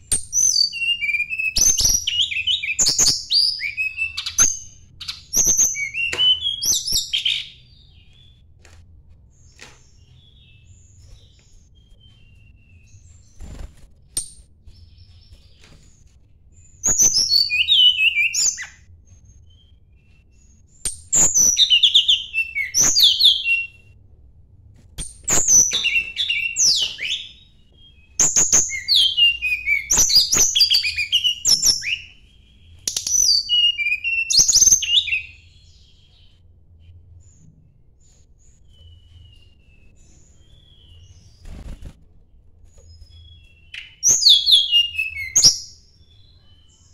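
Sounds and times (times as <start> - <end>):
songbird singing: 0.0 - 8.6, 14.7 - 24.0, 25.3 - 41.9, 42.7 - 46.9.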